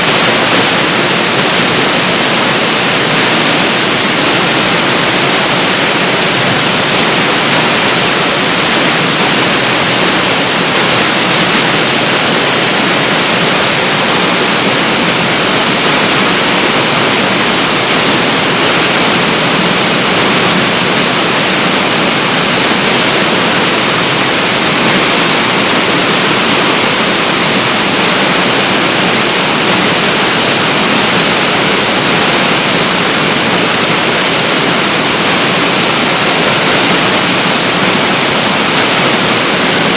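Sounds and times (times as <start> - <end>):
waterfall rushing into pool: 0.0 - 39.9.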